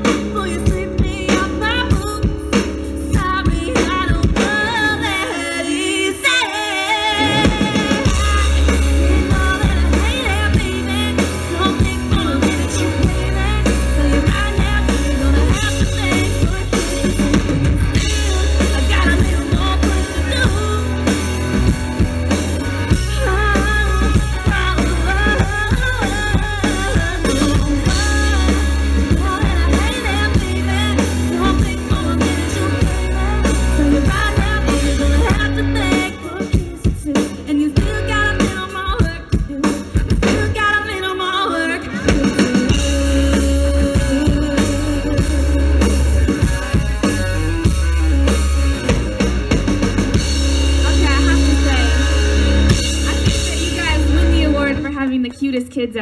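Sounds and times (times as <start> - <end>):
heavy bass: 0.0 - 41.1, 41.8 - 55.3
woman singing country: 0.0 - 49.2, 49.8 - 56.0
drum kit beating: 0.0 - 55.9
band playing: 0.0 - 56.0.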